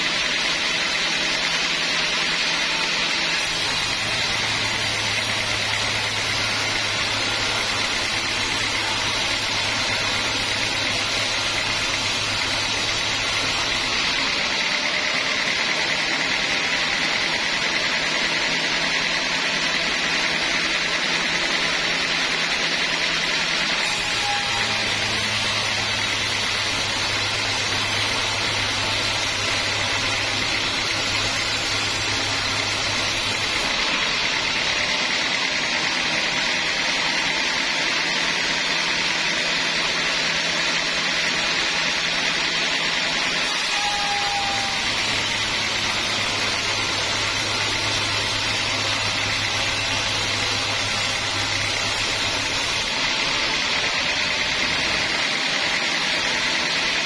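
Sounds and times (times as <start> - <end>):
band sawmill sawing a log: 0.0 - 57.0.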